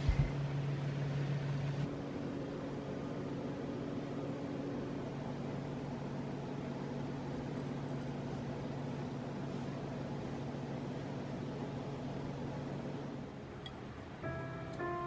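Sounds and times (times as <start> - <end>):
appliance humming: 0.0 - 15.0.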